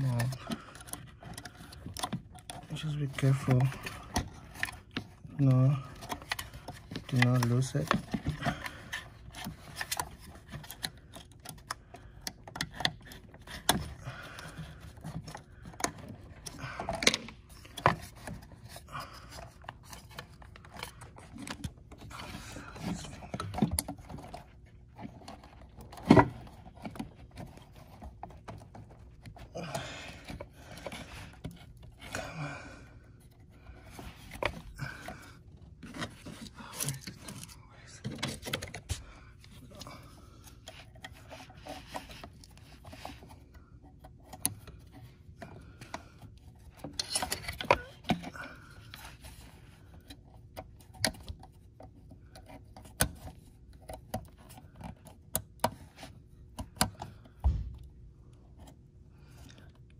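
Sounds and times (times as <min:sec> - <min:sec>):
clicks and scrapes on plastic: 0:00.0 - 0:32.2, 0:32.9 - 0:59.9.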